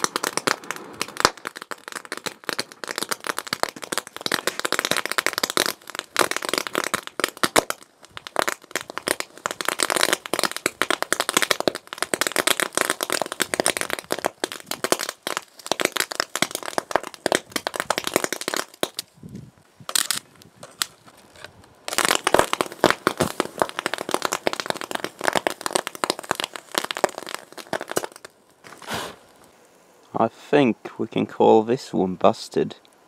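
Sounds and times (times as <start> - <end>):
electric arc crackling and snapping: 0.0 - 19.1, 19.9 - 29.4.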